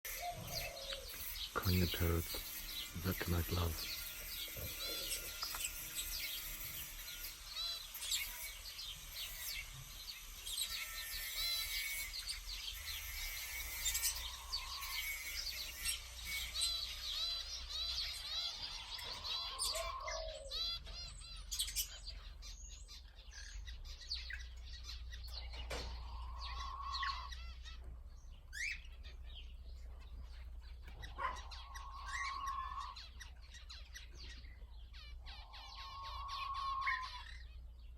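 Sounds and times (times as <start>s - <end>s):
drawn-out bird calls: 0.1s - 37.9s
pet birds chirping: 0.1s - 37.9s.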